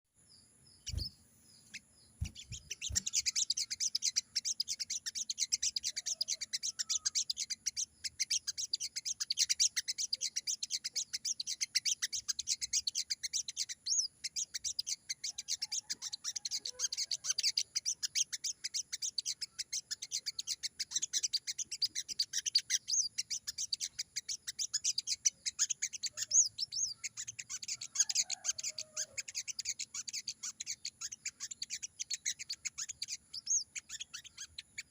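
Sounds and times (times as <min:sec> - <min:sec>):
bird calling sharp high chips: 0:00.8 - 0:34.9.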